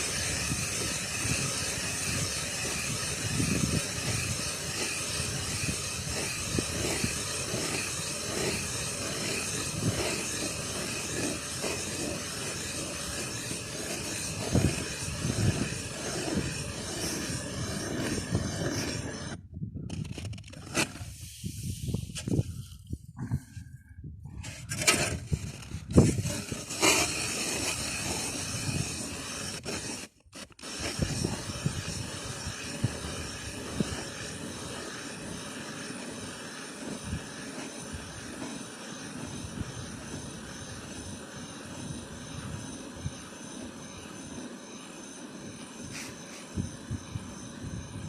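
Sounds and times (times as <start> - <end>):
electric ice auger whining: 0.0 - 19.4, 24.6 - 48.0.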